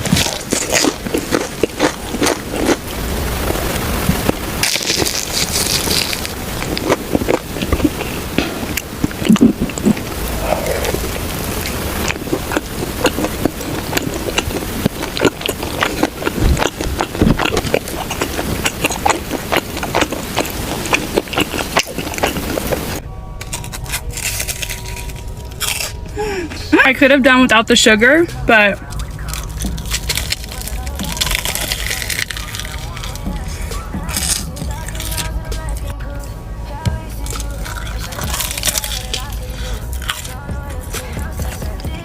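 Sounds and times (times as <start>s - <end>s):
crunching and chewing food: 0.0s - 26.4s, 28.8s - 42.0s.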